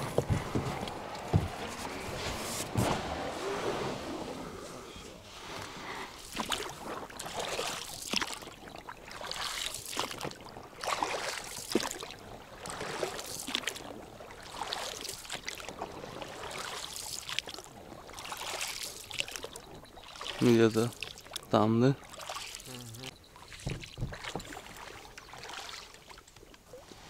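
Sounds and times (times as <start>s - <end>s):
oars splashing in water: 0.0s - 27.0s
water dribbling off oars: 0.0s - 27.0s.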